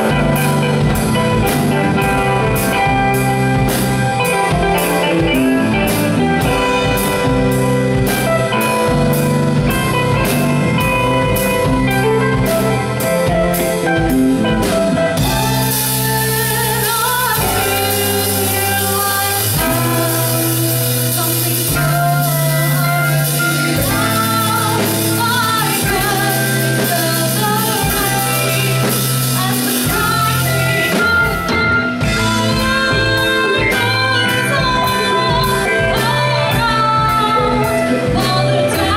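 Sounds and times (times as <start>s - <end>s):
live rock band playing: 0.0s - 38.9s
woman singing: 0.0s - 38.9s.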